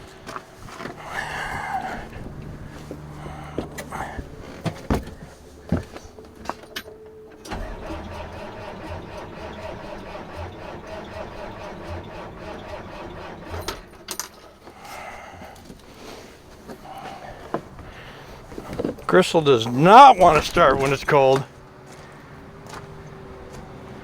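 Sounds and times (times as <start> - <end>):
diesel engine cranking: 0.0 - 24.0.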